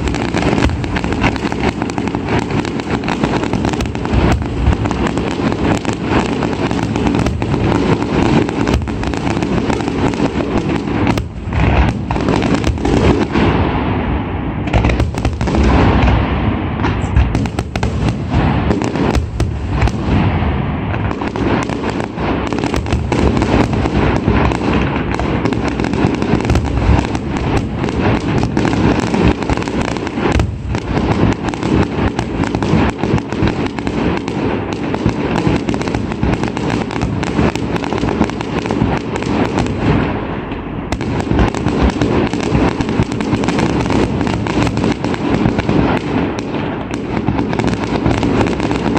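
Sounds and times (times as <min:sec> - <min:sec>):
firework bangs and crackling: 0:00.0 - 0:48.9.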